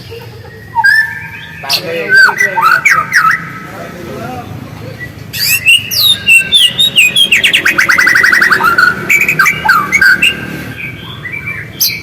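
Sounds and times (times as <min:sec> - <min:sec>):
bird whistles and chirps: 0:00.5 - 0:03.6, 0:04.9 - 0:12.0.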